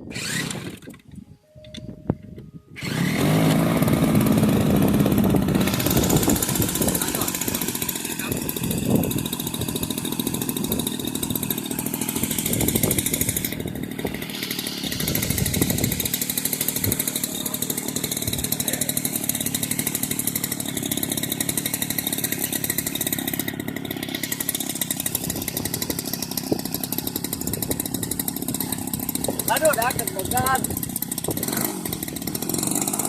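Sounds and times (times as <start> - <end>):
model plane engine buzzing: 0.0 - 1.2, 2.7 - 33.0.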